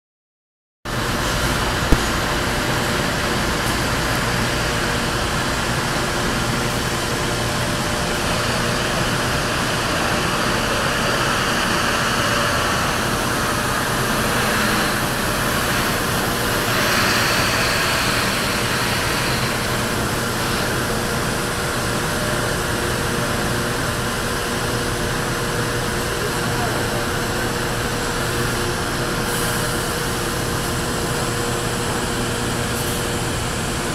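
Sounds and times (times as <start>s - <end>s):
ferry machine drone: 0.9s - 33.9s.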